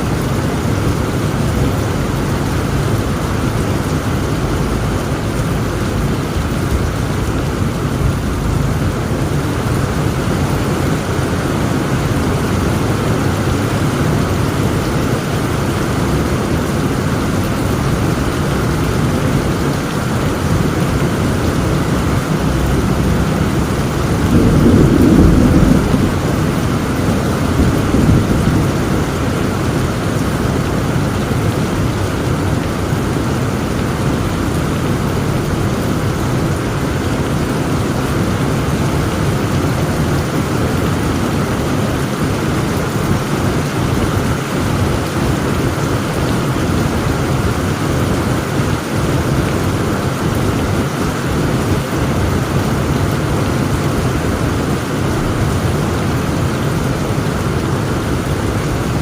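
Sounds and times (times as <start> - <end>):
thunder rumbling: 0.0 - 47.8
heavy rain falling: 0.0 - 59.0.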